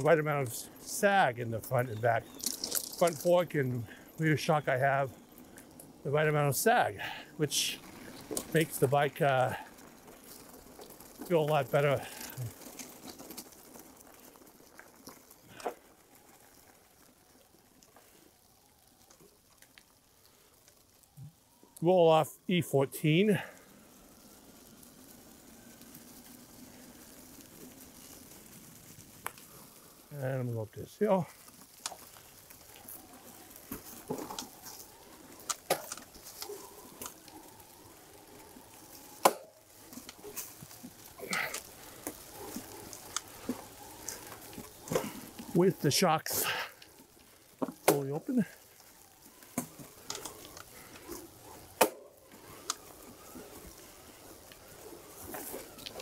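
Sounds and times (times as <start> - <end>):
bike tyres crackling over wet leaves: 0.0 - 56.0
light rain: 0.0 - 56.0.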